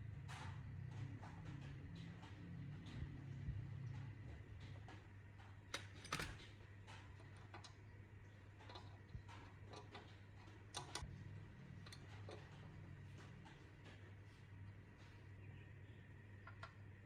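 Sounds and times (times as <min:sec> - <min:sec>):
low steady hum: 0:00.0 - 0:17.0
faint clicks and taps: 0:00.1 - 0:15.6.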